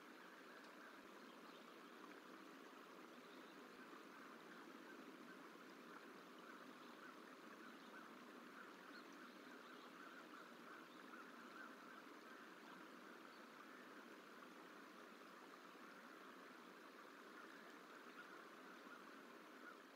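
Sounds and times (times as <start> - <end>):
faint outdoor hiss: 0.0 - 19.9.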